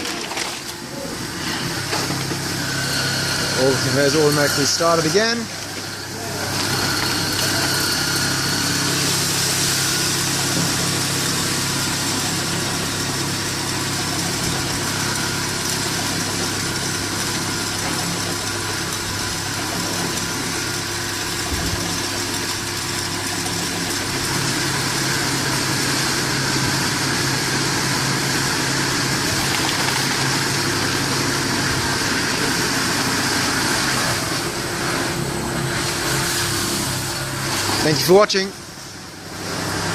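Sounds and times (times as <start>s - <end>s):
conveyor motor hum: 0.0s - 39.9s.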